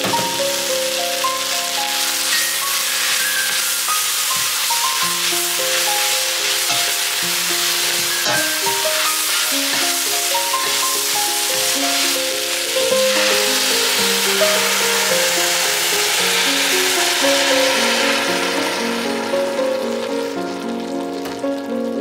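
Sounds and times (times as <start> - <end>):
background music melody: 0.0 - 22.0
food sizzling in a pot: 0.0 - 22.0.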